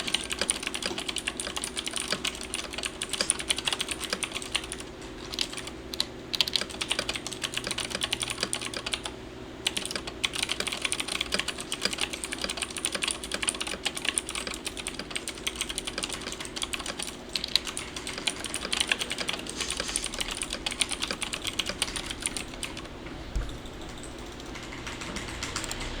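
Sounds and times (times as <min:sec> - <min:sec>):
fast typing on mechanical keyboard: 0:00.0 - 0:26.0.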